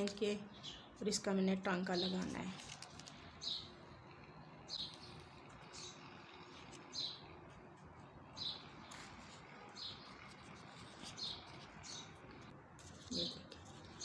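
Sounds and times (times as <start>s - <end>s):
small bird chirping: 0.0s - 12.5s.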